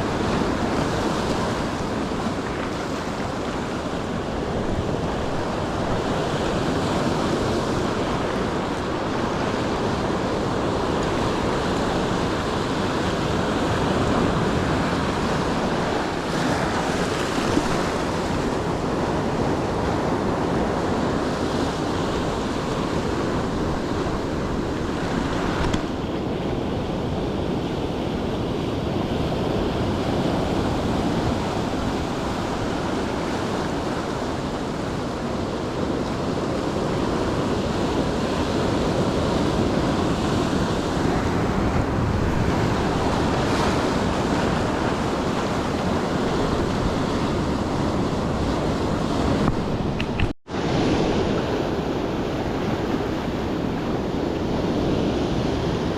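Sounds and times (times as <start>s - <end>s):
ocean surf breaking on shore: 0.0s - 55.9s
wind on microphone: 0.0s - 55.9s.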